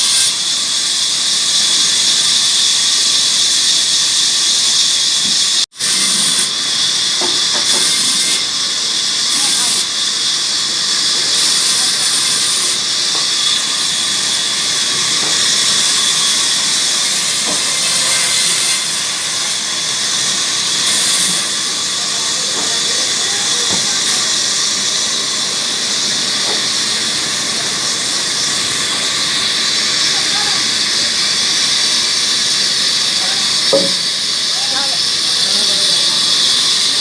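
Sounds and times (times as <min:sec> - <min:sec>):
saw cutting through a log: 0:00.0 - 0:37.0.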